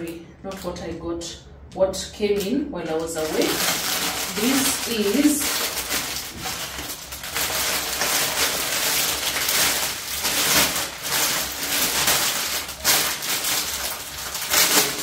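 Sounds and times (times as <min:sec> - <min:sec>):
packaging rustling and crinkling: 0:02.4 - 0:15.0.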